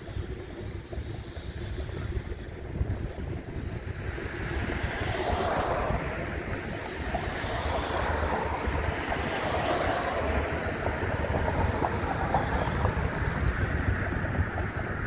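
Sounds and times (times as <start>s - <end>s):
street traffic rumble: 0.0s - 15.0s
wind buffeting microphone: 0.0s - 15.0s.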